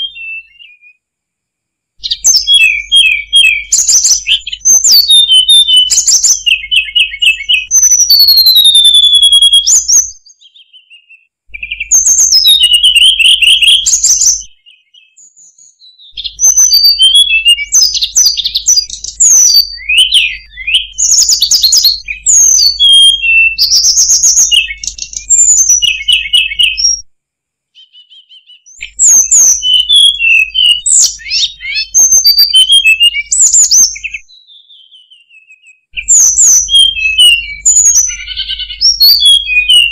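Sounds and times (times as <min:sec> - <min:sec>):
bird singing whistles and trills: 0:00.0 - 0:01.1, 0:02.0 - 0:27.1, 0:27.7 - 0:39.9.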